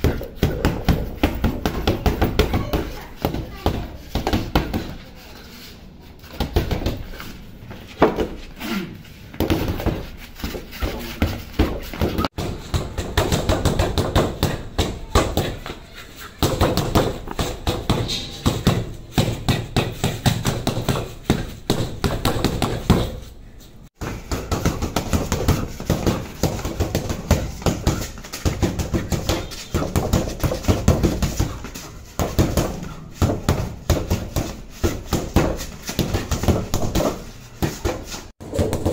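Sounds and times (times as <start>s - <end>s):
boxing gloves punching heavy bag: 0.0s - 5.0s, 6.2s - 7.2s, 9.3s - 23.3s, 24.0s - 38.9s.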